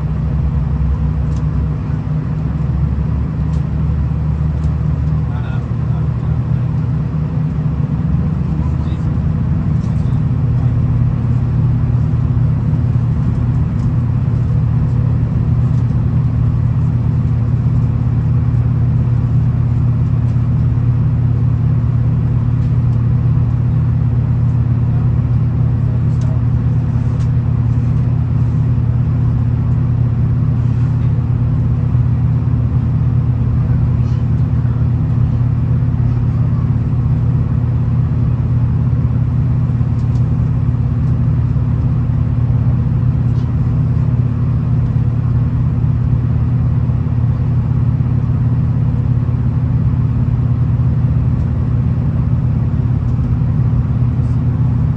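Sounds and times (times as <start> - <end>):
train diesel engine drone: 0.0 - 54.9
wheels on rail: 2.6 - 49.8.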